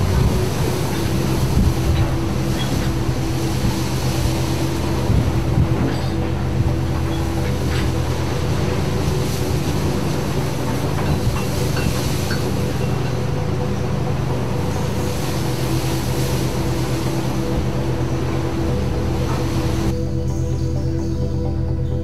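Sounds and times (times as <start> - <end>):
rushing wind: 0.0 - 20.4
ship engine droning: 0.0 - 22.0
stormy sea: 0.0 - 22.0.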